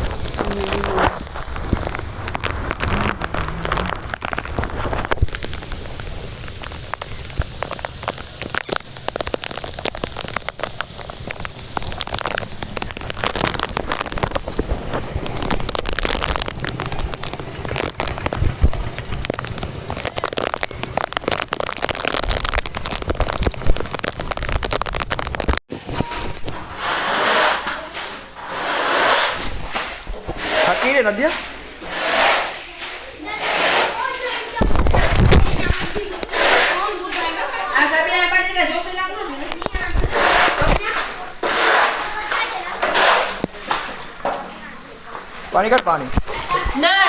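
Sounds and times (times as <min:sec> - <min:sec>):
heavy rain on hard surfaces: 0:00.0 - 0:47.0.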